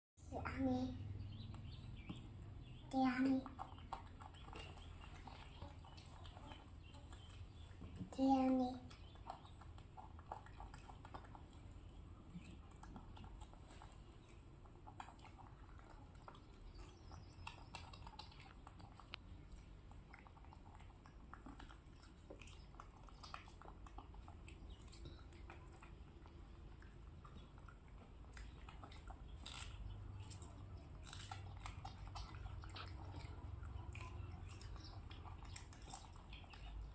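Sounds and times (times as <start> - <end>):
chewing crisp vegetables: 1.0 - 36.9.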